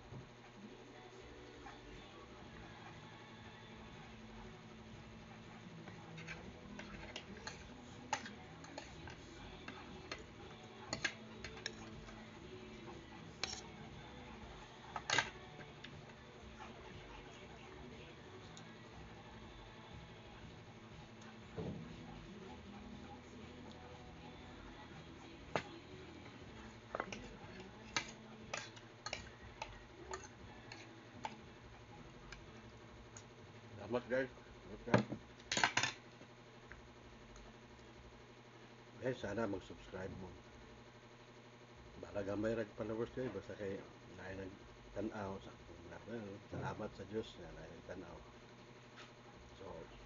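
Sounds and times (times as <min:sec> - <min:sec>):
low room hum: 0:00.0 - 0:50.0.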